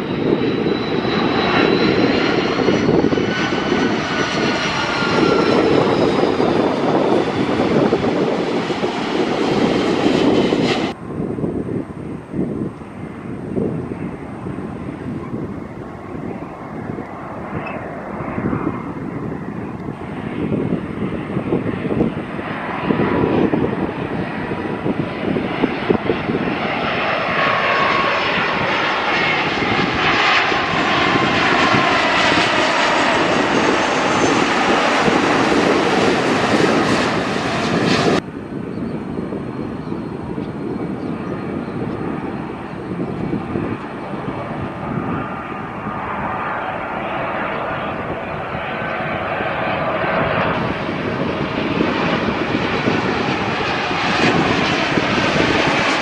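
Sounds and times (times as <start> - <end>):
distant jet noise: 0.0 - 56.0
jet airliner passing overhead: 0.0 - 56.0.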